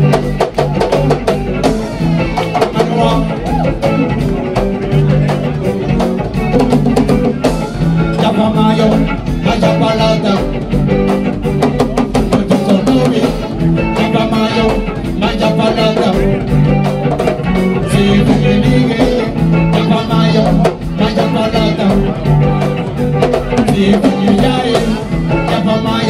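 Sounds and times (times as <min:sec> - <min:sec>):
live band playing groove: 0:00.0 - 0:26.0.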